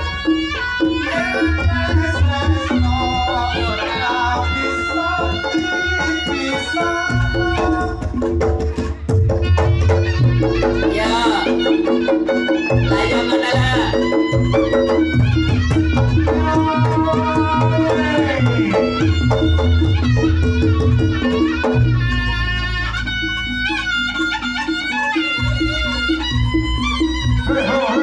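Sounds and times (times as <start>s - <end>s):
hand drums: 0.0s - 28.0s
reedy shawm melody: 0.0s - 28.0s.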